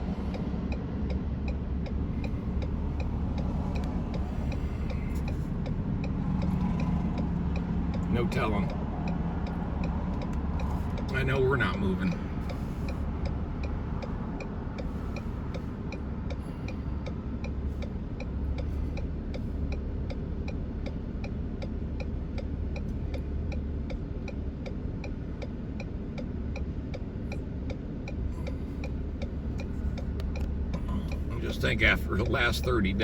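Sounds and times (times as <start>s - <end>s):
car engine idling: 0.0s - 33.0s
turn signal clicking: 0.0s - 33.0s.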